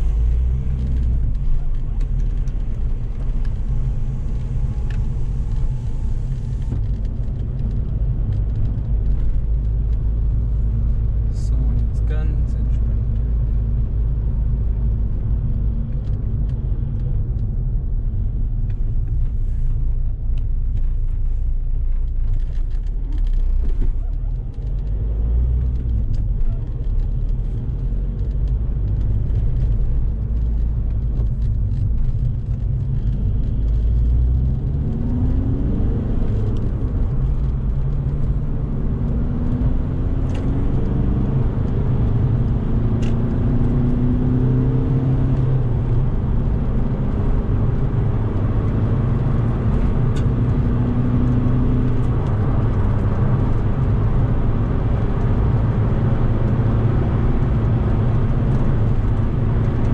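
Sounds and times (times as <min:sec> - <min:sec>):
car road noise: 0:00.0 - 0:59.9
diesel engine rumble: 0:00.0 - 0:59.9.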